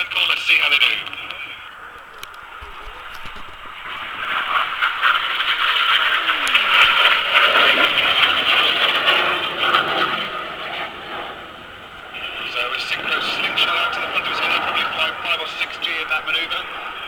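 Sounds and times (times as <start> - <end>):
jet passing by: 0.0 - 17.0.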